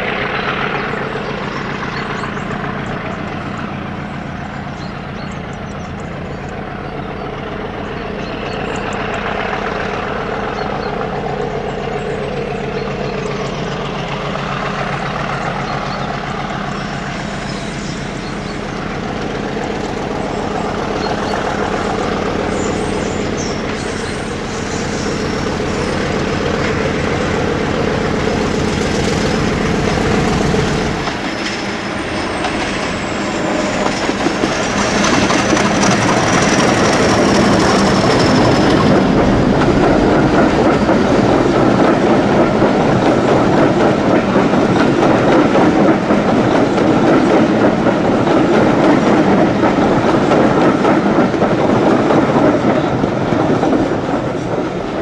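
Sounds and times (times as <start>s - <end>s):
diesel locomotive engine: 0.0s - 55.0s
wheels clattering over rail joints: 0.0s - 55.0s.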